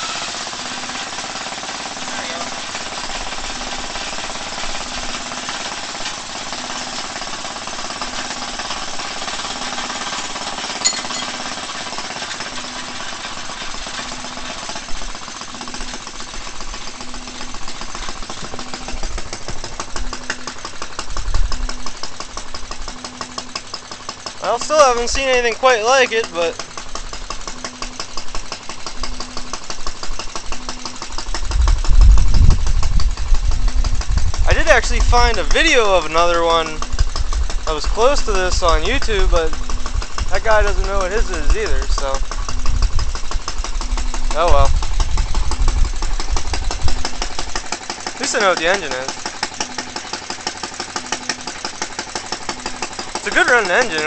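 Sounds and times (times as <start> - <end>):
small engine rattling: 0.0 - 54.0.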